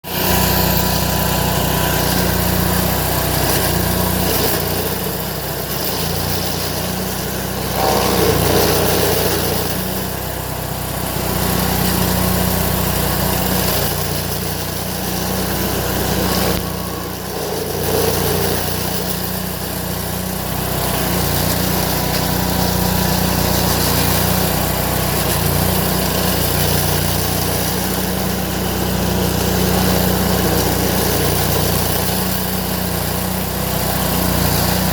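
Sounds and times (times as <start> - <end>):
stump grinder engine running: 0.0 - 34.9.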